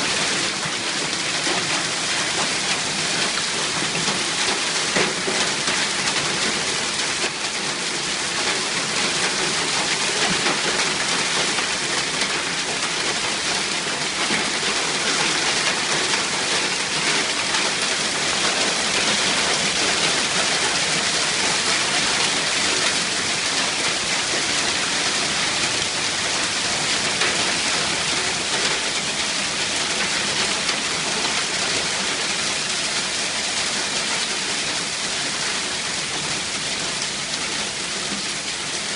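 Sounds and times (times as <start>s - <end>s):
hail and rain pelting down: 0.0s - 38.9s.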